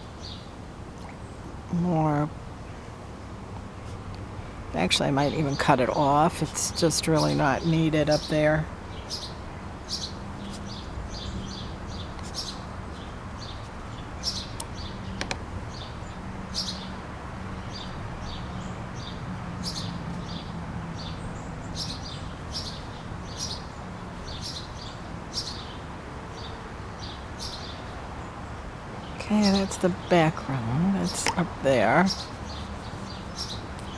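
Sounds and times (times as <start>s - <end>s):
songbirds chirping: 0.0s - 33.9s.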